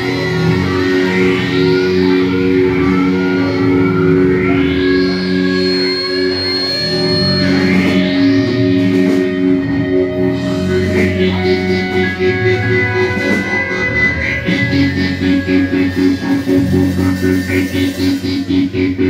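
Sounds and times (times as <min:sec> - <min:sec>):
electric guitars and bass droning: 0:00.0 - 0:19.0.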